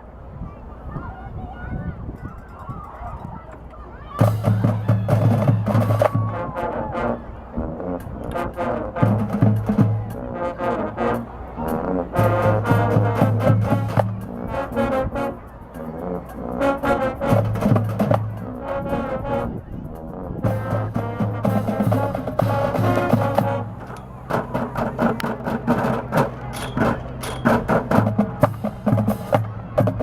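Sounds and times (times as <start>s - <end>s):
marching band playing: 3.9s - 30.0s.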